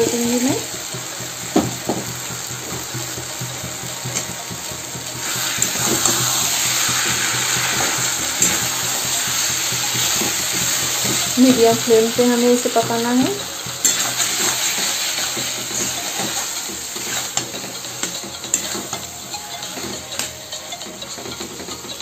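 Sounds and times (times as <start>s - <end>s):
gravy sizzling in a pan: 0.0s - 22.0s
potatoes knocking into pan: 0.7s - 20.4s.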